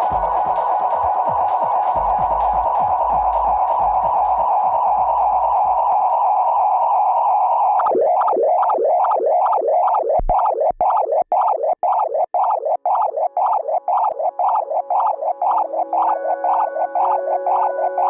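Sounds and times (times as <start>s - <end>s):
low held synthesizer tone: 0.0s - 18.0s
pulsing synthesizer tone: 0.0s - 18.0s.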